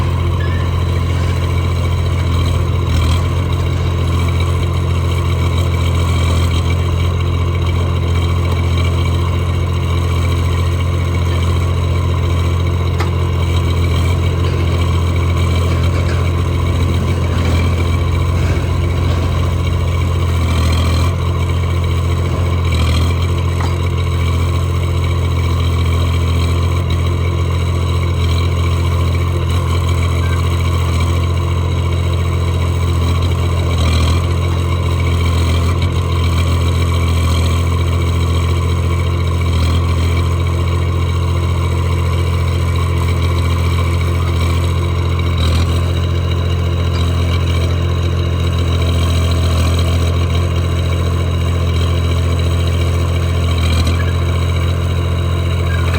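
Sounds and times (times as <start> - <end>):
backhoe loader engine running: 0.0 - 55.9.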